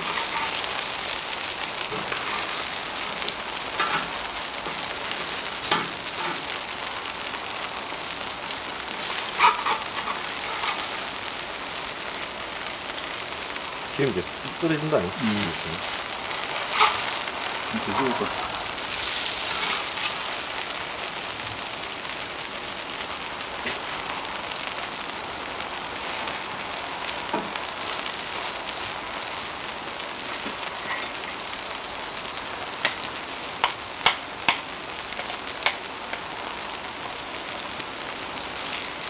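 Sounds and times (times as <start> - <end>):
pancakes sizzling in oil: 0.0 - 39.0.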